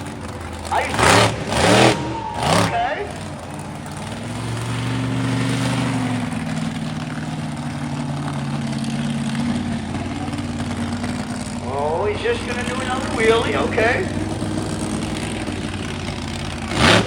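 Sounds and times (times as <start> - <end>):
monster truck engine running hard: 0.0 - 17.0.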